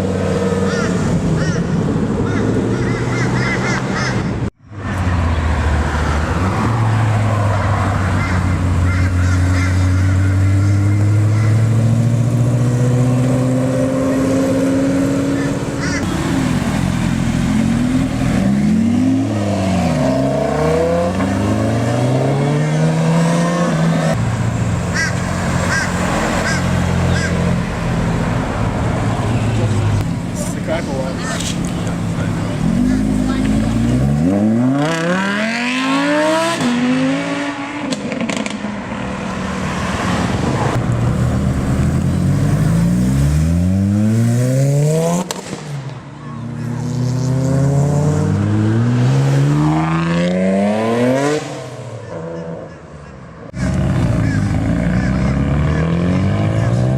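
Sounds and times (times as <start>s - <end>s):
car engine revving: 4.8s - 45.9s, 46.6s - 52.6s, 53.5s - 56.9s.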